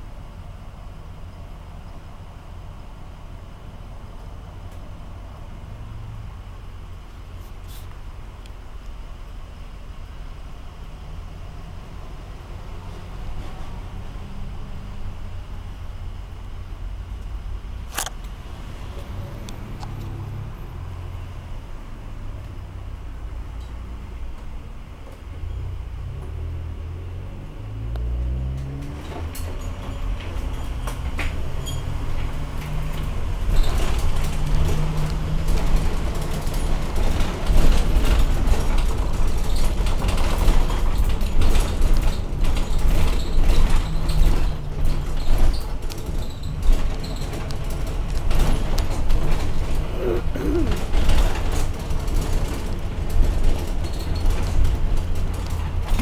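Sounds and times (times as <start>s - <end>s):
bus body rattling and creaking: 0.0s - 56.0s
bus road and engine rumble: 0.0s - 56.0s.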